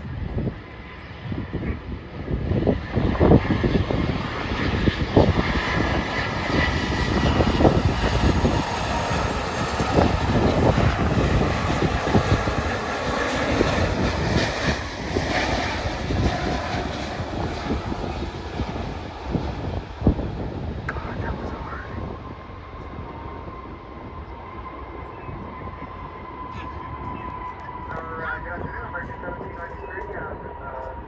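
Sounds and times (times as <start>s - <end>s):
jet engine drone with whine: 0.0s - 31.0s.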